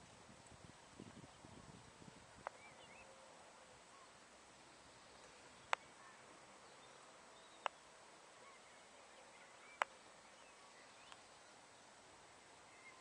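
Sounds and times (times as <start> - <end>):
distant bird calls: 1.2 - 13.0.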